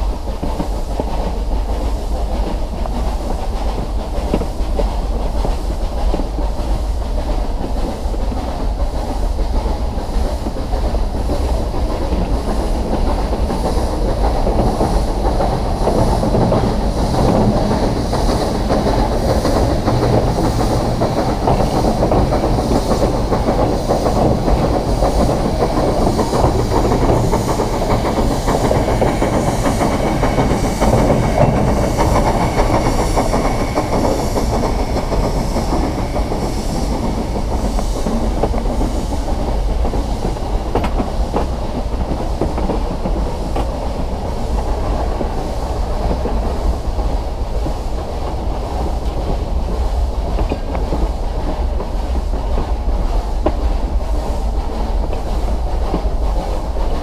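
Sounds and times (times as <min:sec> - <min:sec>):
wheels clacking over rail joints: 0:00.0 - 0:47.2
train rumbling: 0:00.0 - 0:57.0.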